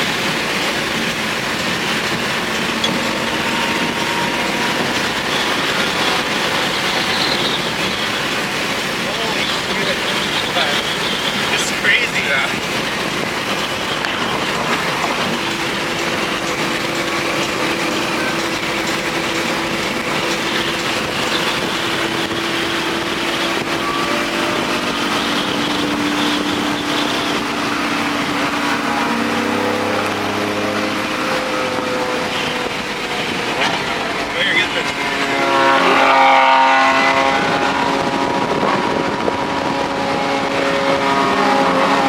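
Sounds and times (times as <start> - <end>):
car engine drone: 0.0 - 42.0
road and wind noise: 0.0 - 42.0.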